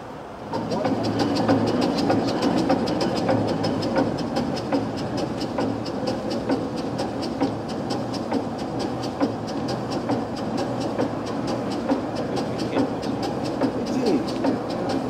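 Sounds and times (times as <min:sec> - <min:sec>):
steam crane engine beating: 0:00.0 - 0:15.0.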